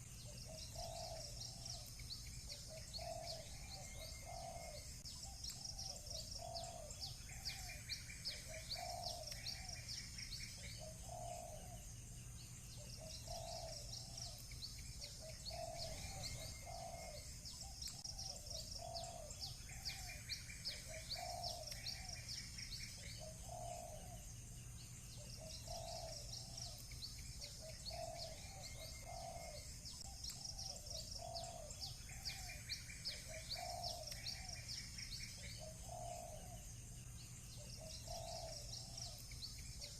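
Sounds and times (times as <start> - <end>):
doves cooing: 0.0 - 11.9, 12.8 - 24.3, 25.2 - 36.7, 37.6 - 39.9
small birds chirping: 0.0 - 39.9.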